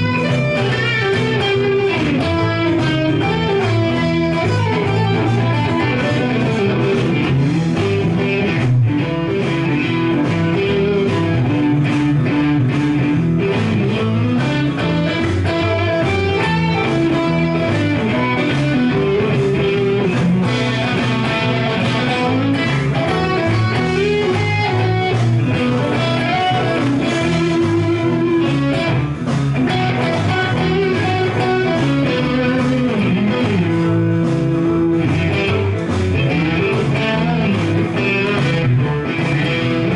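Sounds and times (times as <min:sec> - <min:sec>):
electric guitar bluesy lead: 0:00.0 - 0:39.9.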